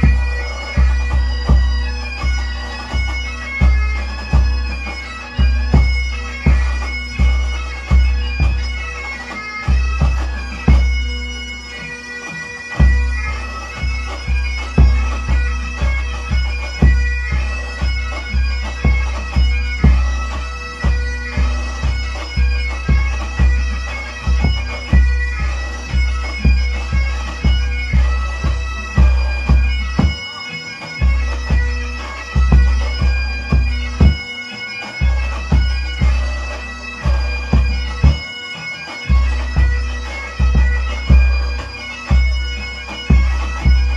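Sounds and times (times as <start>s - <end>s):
bagpipe music: 0.0s - 43.9s.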